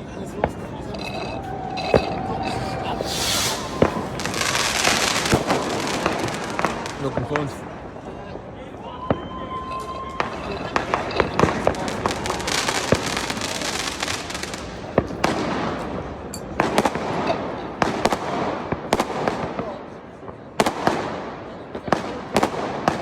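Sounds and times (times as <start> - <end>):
fireworks bangs: 0.0 - 8.0, 9.1 - 23.0
fireworks crackle: 0.0 - 8.1, 9.8 - 23.0.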